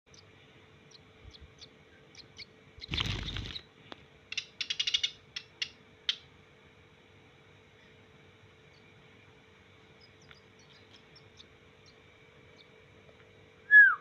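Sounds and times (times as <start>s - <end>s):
songbird chirping: 0.1s - 6.3s, 8.6s - 14.0s.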